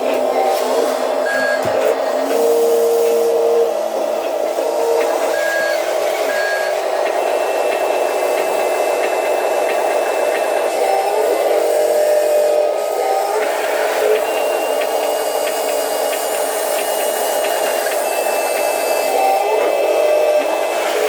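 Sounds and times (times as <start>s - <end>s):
electric motors whining: 0.0s - 21.0s.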